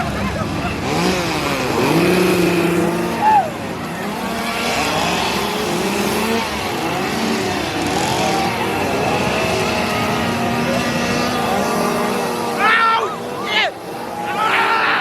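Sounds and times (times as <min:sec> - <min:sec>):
engines revving: 0:00.0 - 0:15.0.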